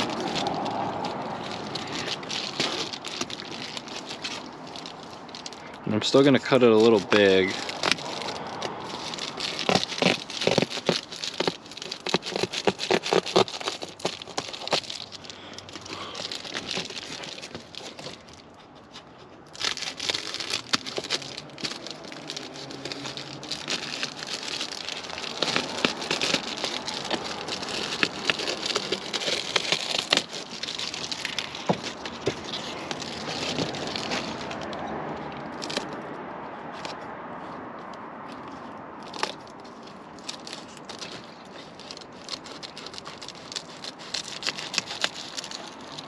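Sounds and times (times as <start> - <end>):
foil insulation crinkling: 0.0 - 36.0, 38.3 - 46.0.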